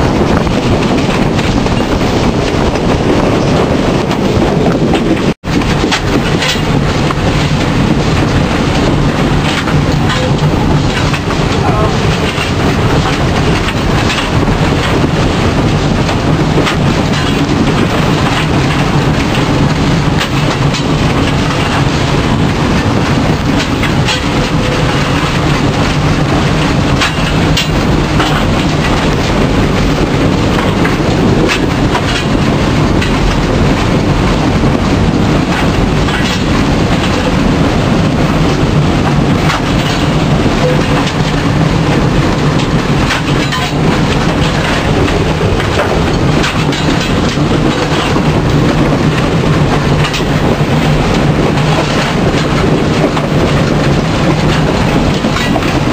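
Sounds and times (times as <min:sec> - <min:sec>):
steam locomotive running on rails: 0:00.0 - 0:55.9.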